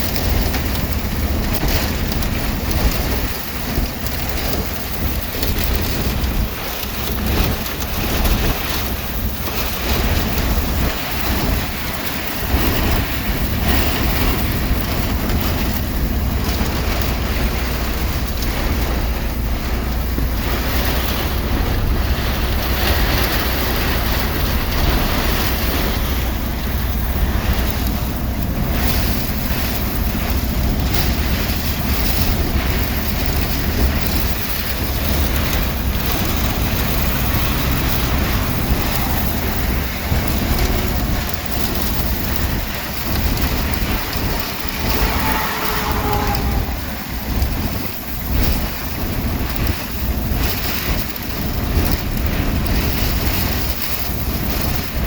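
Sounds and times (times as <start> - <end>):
storm wind buffeting microphone: 0.0 - 55.0.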